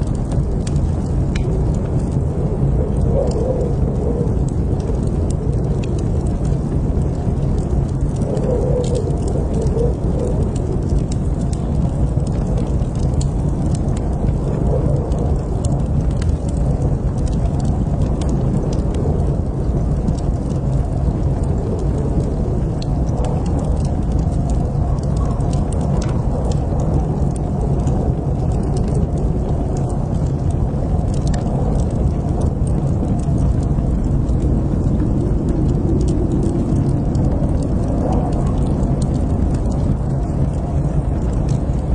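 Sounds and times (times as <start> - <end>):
fire crackling in fireplace: 0.0 - 41.9.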